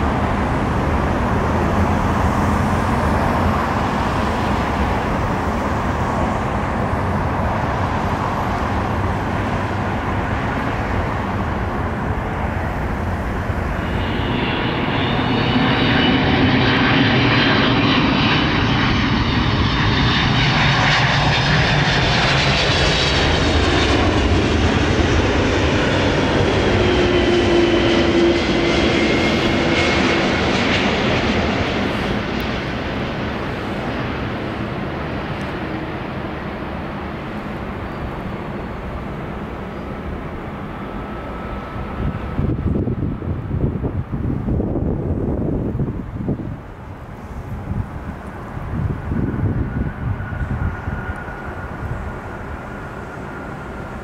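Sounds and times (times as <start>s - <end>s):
jet airliner passing: 0.0s - 54.0s.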